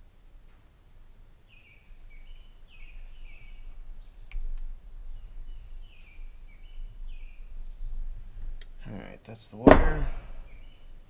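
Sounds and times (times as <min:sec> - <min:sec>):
bird chirping: 0:00.8 - 0:11.0.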